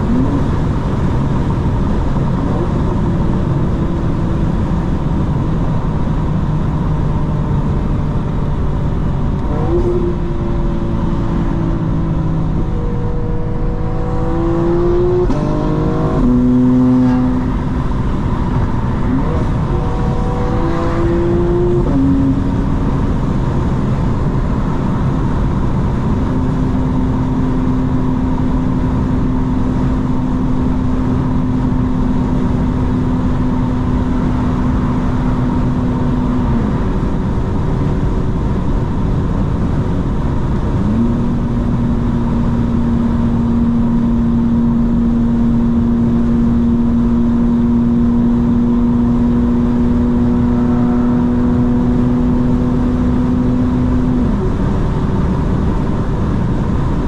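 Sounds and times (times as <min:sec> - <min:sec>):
car engine cruising: 0:00.0 - 0:57.0
road and tyre noise: 0:00.0 - 0:57.0.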